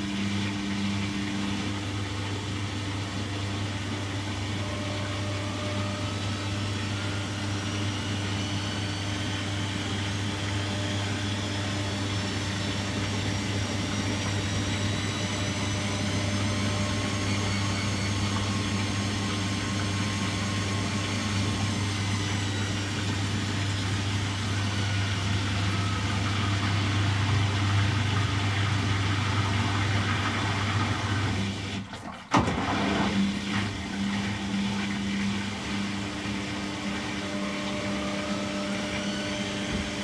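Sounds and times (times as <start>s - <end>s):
motor whine: 0.0s - 40.0s
washing machine humming: 0.0s - 40.0s.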